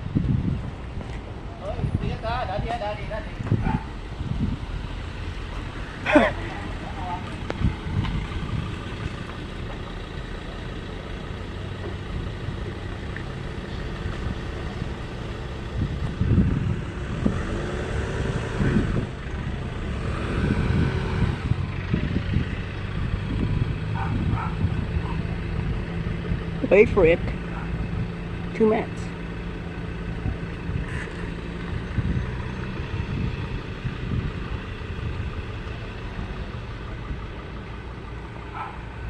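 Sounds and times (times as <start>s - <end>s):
engine rumble: 0.0s - 39.0s.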